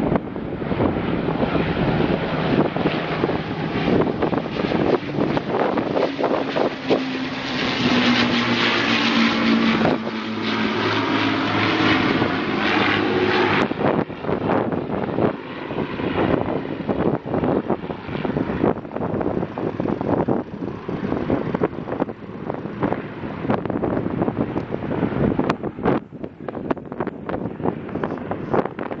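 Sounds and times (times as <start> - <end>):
propeller aircraft engine drone: 0.0 - 29.0
wind noise on microphone: 0.0 - 29.0.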